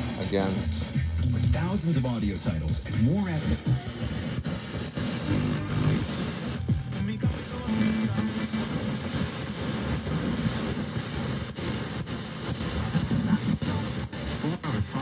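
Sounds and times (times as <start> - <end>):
noisy radio broadcast: 0.0 - 15.0.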